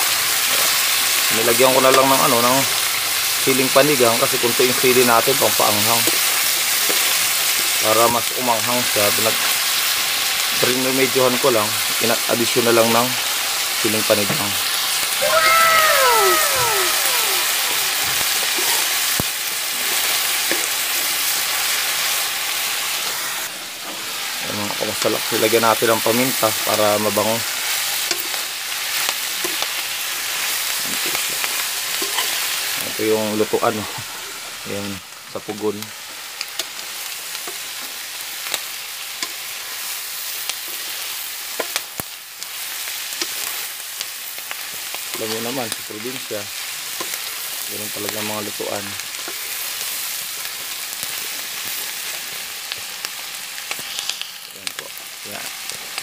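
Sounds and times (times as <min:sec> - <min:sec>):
snails sizzling in a wok: 0:00.0 - 0:56.0.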